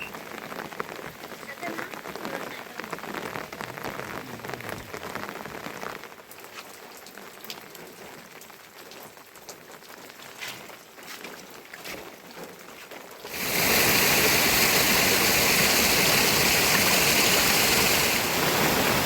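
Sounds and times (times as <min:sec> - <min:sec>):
rain dripping onto surfaces: 0:00.0 - 0:19.0.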